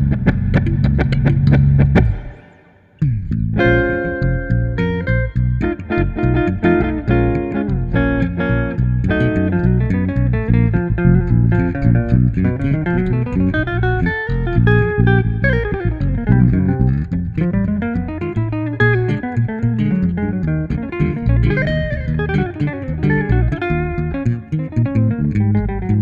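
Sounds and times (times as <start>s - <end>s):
electric bass playing: 0.0s - 26.0s
electric guitar playing: 0.0s - 26.0s.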